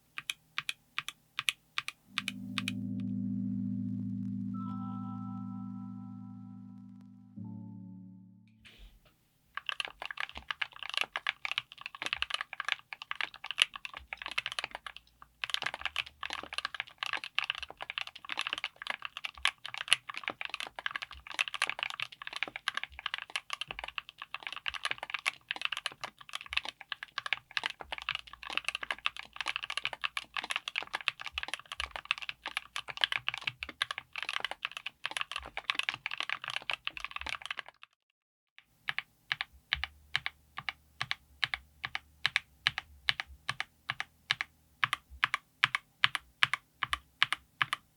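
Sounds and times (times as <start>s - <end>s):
mechanical keyboard typing: 0.0s - 2.8s, 9.6s - 37.8s, 38.9s - 47.9s.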